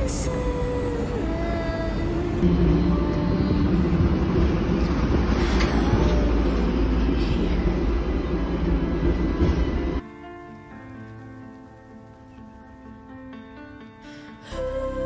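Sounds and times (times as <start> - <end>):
tram rumbling and rattling: 0.0 - 12.3.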